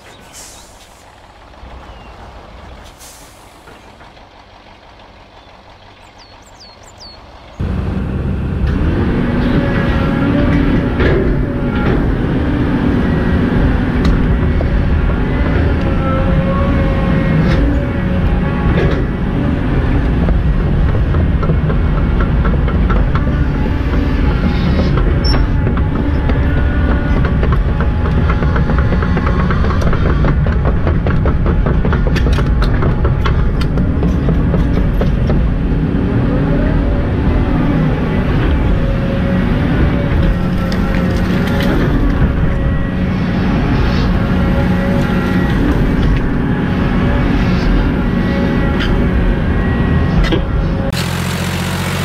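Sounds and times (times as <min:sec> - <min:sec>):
diesel engine running: 0:00.0 - 0:52.0
engine whining tones: 0:00.0 - 0:52.0.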